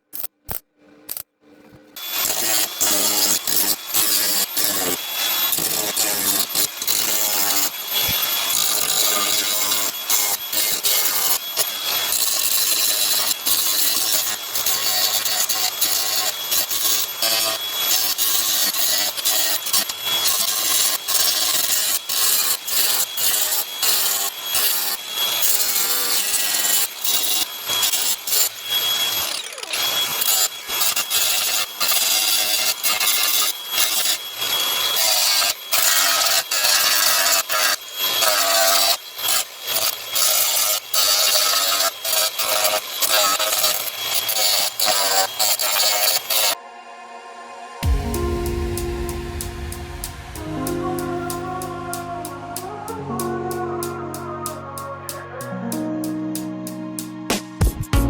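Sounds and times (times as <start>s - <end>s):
power tool on sheet metal: 2.0s - 46.6s, 47.8s - 55.8s.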